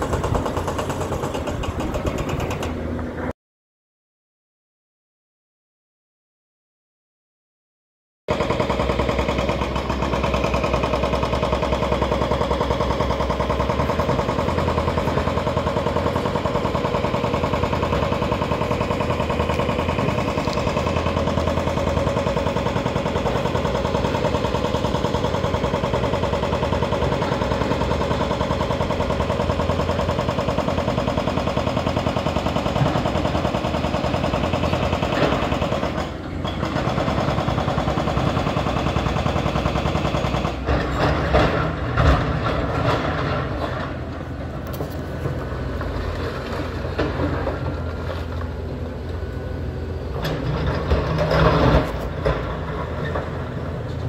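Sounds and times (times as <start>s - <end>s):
hydraulic breaker pounding rock: 0.0s - 2.9s, 8.3s - 54.0s.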